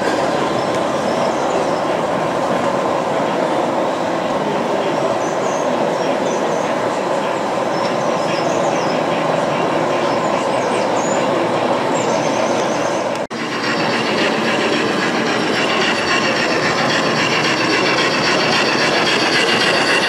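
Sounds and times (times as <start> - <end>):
model trains running: 0.0 - 20.0.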